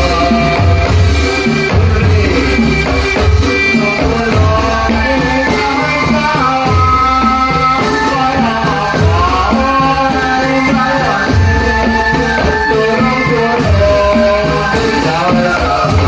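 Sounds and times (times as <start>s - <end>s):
drums beating steady rhythm: 0.0s - 16.0s
person singing melody: 0.0s - 16.0s.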